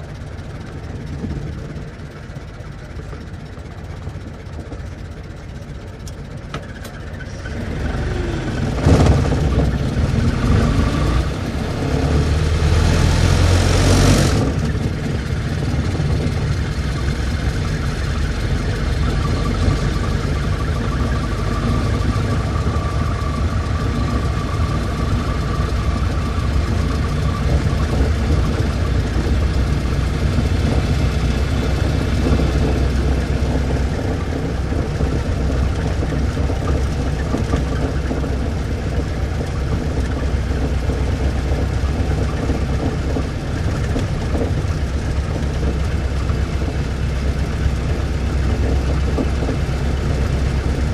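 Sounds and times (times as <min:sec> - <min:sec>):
car engine starting and revving: 0:06.6 - 0:50.9.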